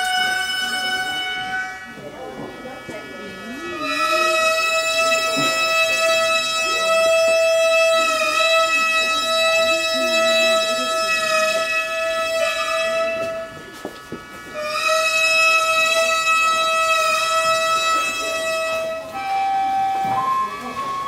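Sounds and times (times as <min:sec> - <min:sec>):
wind instrument holding long note: 0:00.0 - 0:21.0.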